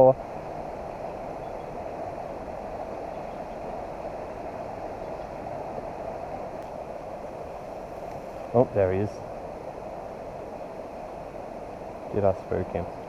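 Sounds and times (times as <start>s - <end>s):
stream flowing over riffles: 0.0s - 13.0s.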